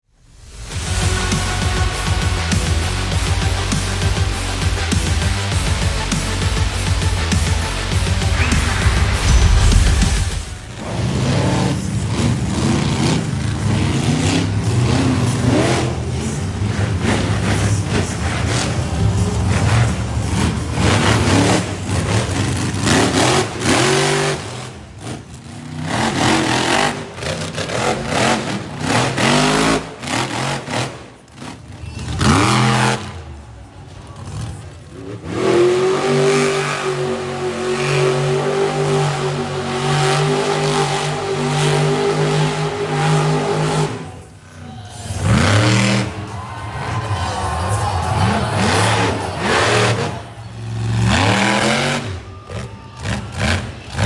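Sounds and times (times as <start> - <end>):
monster truck engines revving: 0.0 - 54.0.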